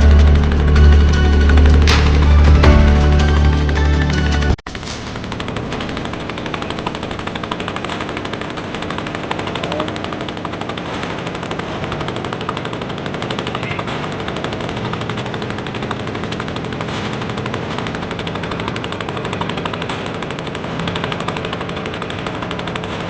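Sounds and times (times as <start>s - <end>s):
small boat engine chugging: 0.0s - 23.0s.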